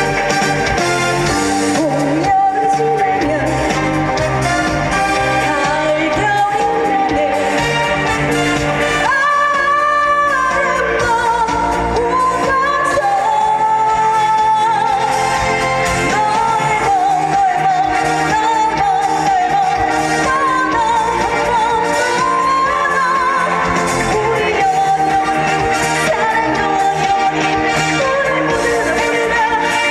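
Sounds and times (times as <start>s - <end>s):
backing track with bass and beat: 0.0s - 29.9s
woman singing with vibrato: 0.0s - 29.9s.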